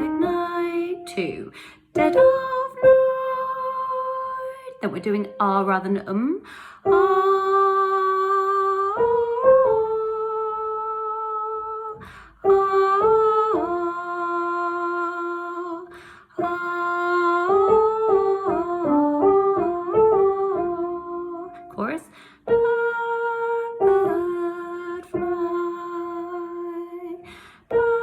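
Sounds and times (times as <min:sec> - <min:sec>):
person singing wordless melody: 0:00.0 - 0:28.0.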